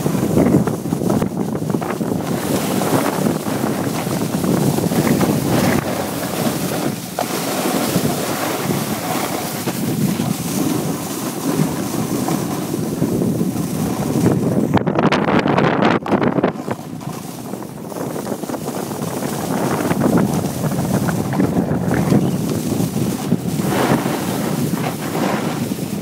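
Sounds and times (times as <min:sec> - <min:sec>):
skis scraping on snow: 0:00.0 - 0:14.6, 0:16.4 - 0:26.0
wind rushing over microphone: 0:00.0 - 0:26.0.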